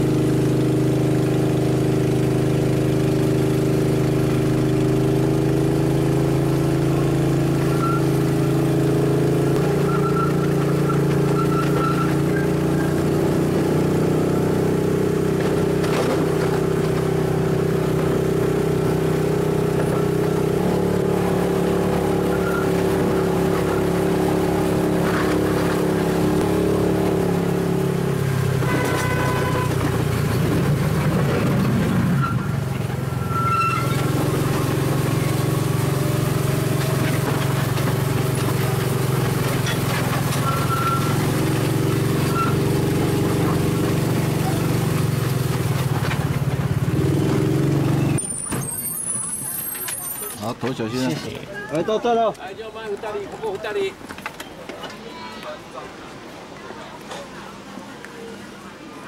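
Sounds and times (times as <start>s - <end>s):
trolley wheels droning: 0.0s - 59.0s
high wheel squeals: 3.5s - 51.2s.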